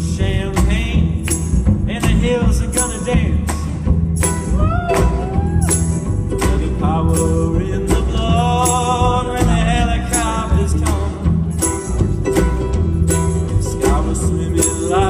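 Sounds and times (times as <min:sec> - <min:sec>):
guitar: 0:00.0 - 0:15.0
steady percussion beat: 0:00.0 - 0:15.0
upright bass notes: 0:00.0 - 0:15.0.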